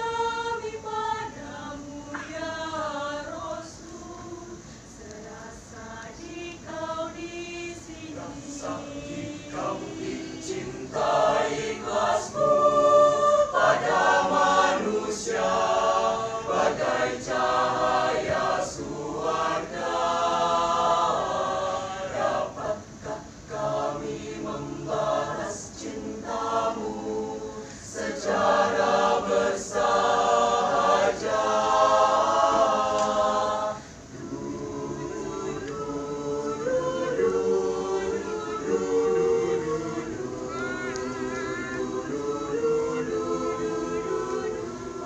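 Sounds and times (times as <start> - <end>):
mixed choir singing: 0.0 - 45.0.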